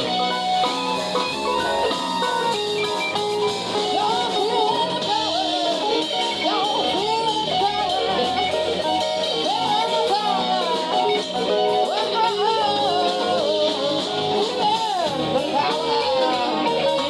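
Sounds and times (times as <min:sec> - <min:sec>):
guitar with bent notes: 0:00.0 - 0:17.0.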